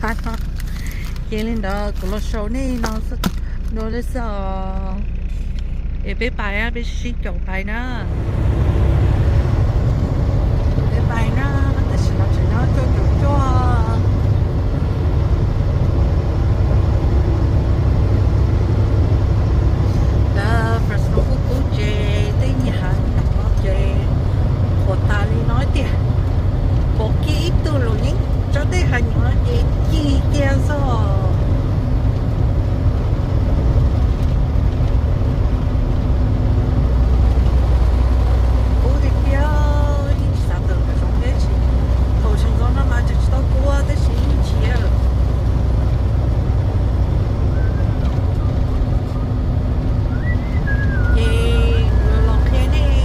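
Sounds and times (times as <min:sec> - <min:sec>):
faint constant hum: 0:00.0 - 0:53.0
road noise: 0:00.0 - 0:53.0
truck engine rumble: 0:00.0 - 0:53.0.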